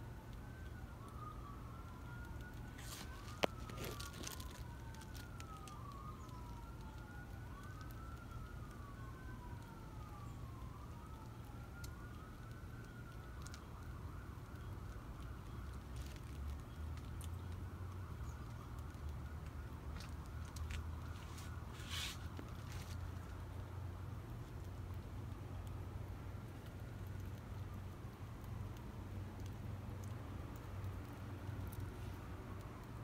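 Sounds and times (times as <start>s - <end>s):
emergency vehicle siren wailing: 0.0s - 33.0s.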